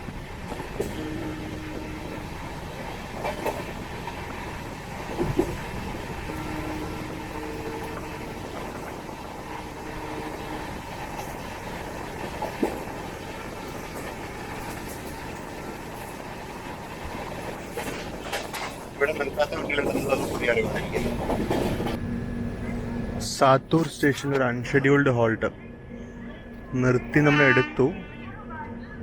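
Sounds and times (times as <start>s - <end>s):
train wheels rumbling on rails: 0.0s - 24.4s.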